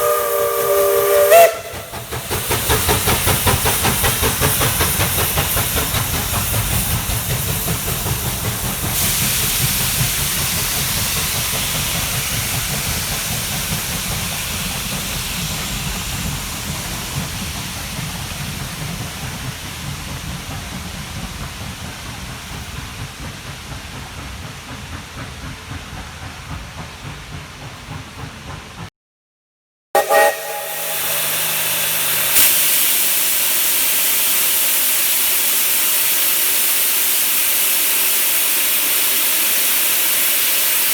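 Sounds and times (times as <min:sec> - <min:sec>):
steam hissing: 0:00.0 - 0:28.8, 0:30.0 - 0:40.9
steam locomotive exhaust beats: 0:00.0 - 0:28.9, 0:30.0 - 0:40.9.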